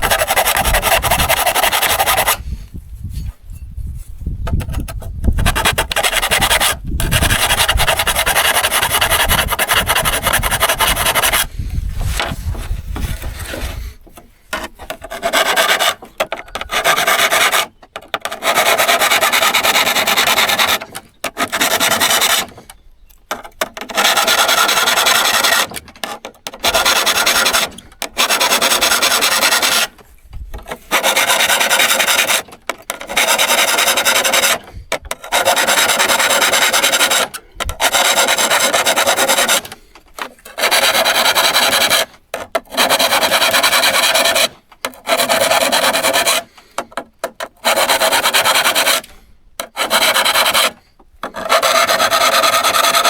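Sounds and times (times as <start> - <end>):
file rasping on saw blade: 0.0 - 2.5, 4.5 - 30.0, 30.6 - 53.0.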